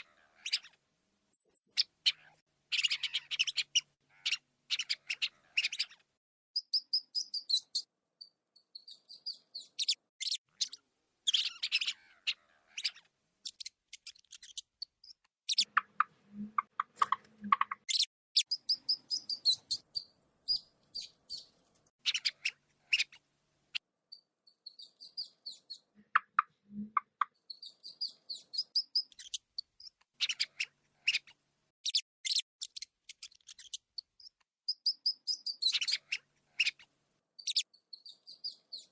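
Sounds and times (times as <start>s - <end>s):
rats squeaking: 0.0s - 6.0s, 6.6s - 23.2s, 24.1s - 38.9s.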